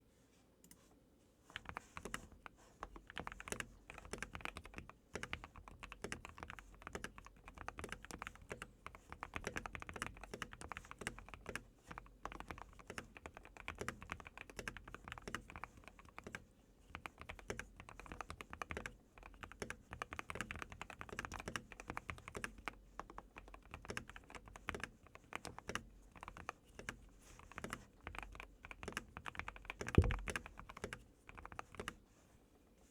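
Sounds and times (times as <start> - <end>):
mechanical keyboard typing: 1.6 - 32.0.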